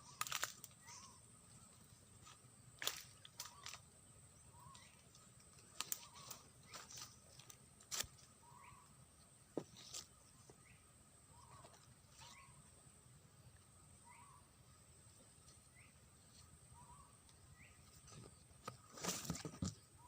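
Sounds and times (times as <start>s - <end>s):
faint bird chirps: 0.0s - 18.8s.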